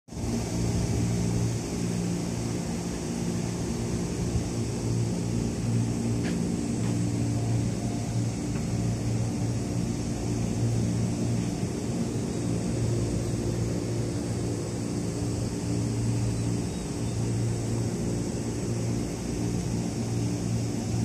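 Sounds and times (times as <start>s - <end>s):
faint high whine: 0.1s - 21.0s
idling train low hum: 0.1s - 21.0s.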